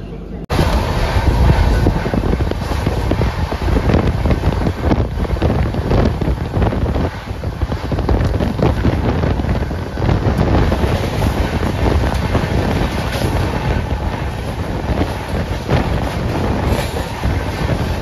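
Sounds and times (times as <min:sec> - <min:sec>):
train rumbling and clattering on track: 0:00.0 - 0:18.0
wind buffeting microphone: 0:00.5 - 0:18.0.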